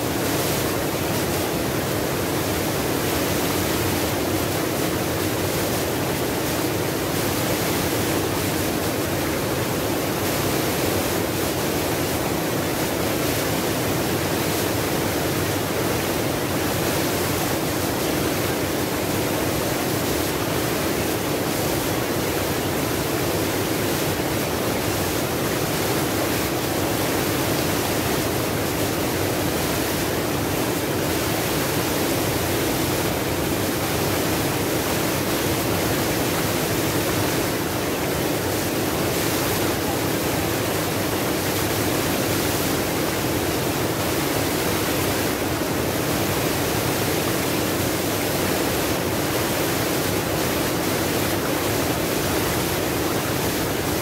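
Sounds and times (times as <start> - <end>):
waterfall rushing over rocks: 0.0 - 54.0.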